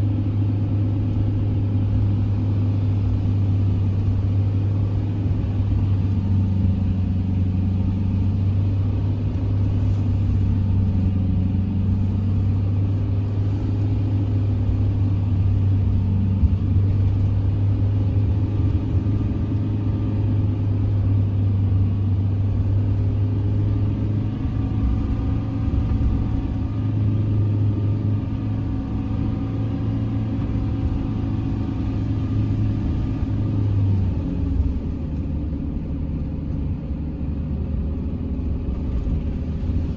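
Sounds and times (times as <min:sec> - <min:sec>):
road rumble: 0:00.0 - 0:39.9
vehicle engine drone: 0:00.0 - 0:39.9.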